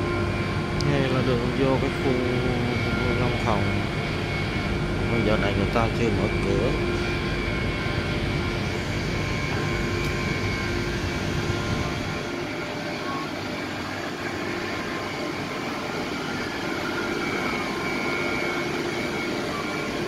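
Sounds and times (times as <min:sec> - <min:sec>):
high whine: 0:00.0 - 0:20.0
low hum: 0:00.0 - 0:20.0
machinery rushing drone: 0:00.0 - 0:20.0.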